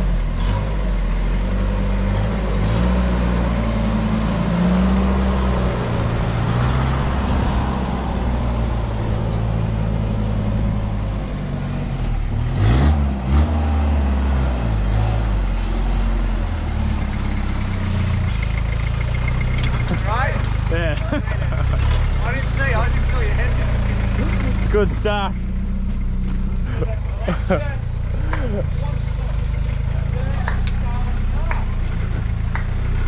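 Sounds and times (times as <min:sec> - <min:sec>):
diesel engine revving: 0:00.0 - 0:33.0.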